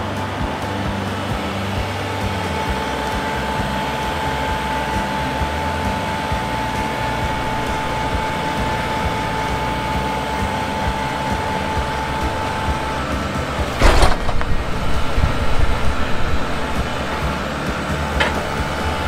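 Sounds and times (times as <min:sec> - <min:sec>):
high whine: 0:00.0 - 0:19.0
tractor diesel engine running: 0:00.0 - 0:19.0.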